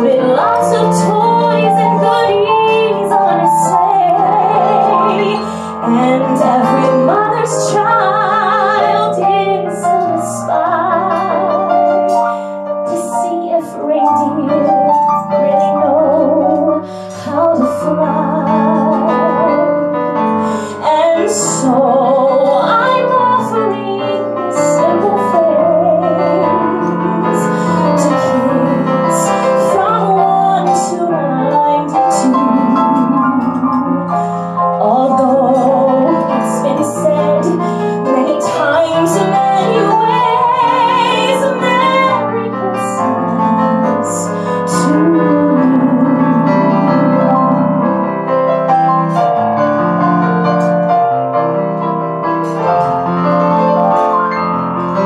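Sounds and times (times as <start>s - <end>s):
woman singing with vibrato: 0.0s - 19.8s, 20.4s - 48.0s
piano accompaniment: 0.0s - 55.0s.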